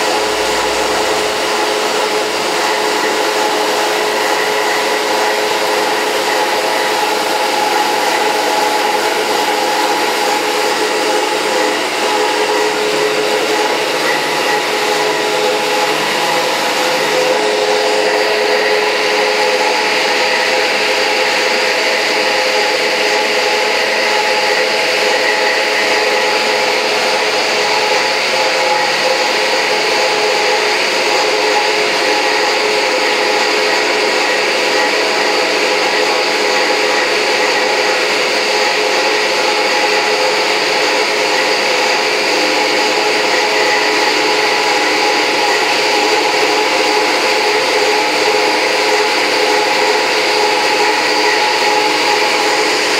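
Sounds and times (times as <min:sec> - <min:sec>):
machine motor whine: 0:00.0 - 0:52.9.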